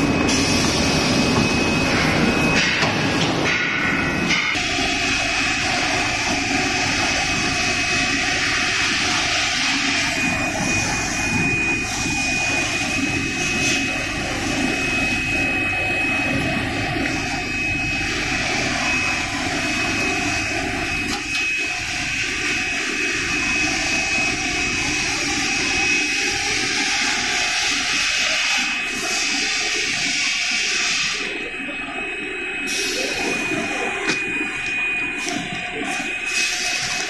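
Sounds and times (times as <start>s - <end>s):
high machine whine: 0.0s - 37.0s.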